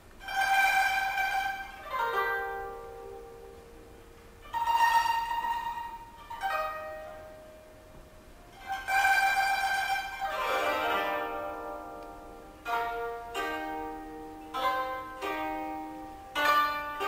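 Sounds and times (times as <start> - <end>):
koto plucked notes: 0.0 - 17.0.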